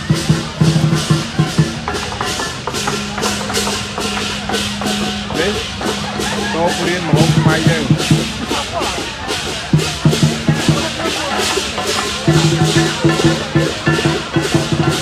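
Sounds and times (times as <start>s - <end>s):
music with fast percussion beat: 0.0s - 15.0s
voices of people: 0.0s - 15.0s.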